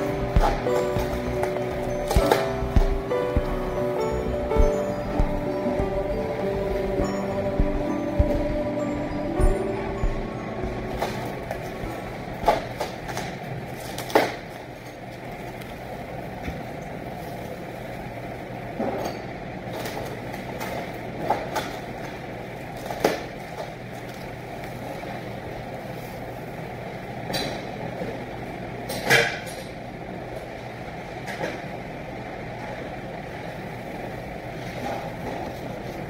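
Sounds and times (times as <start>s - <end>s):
steady machine hum: 0.0s - 28.9s.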